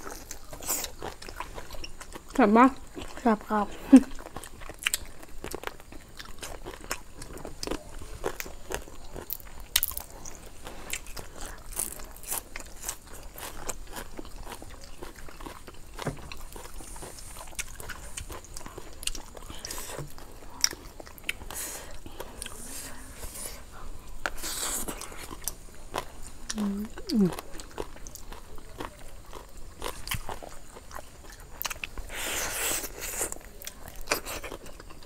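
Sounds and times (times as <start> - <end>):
wet chewing with crunches: 0.0 - 35.0.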